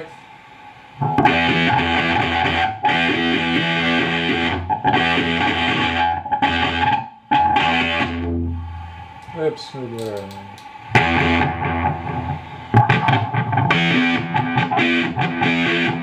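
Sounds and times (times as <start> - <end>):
fuzzed electric guitar chords: 0.8 - 9.2, 10.7 - 16.0.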